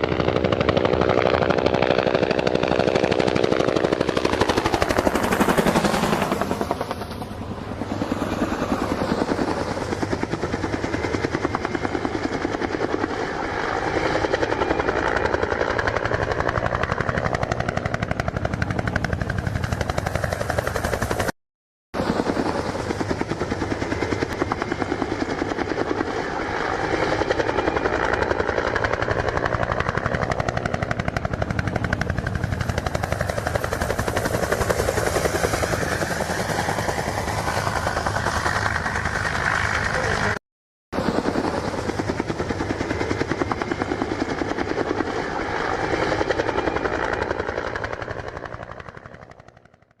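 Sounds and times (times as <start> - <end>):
helicopter rotor blades chopping: 0.0 - 21.4, 22.0 - 40.4, 41.0 - 50.0.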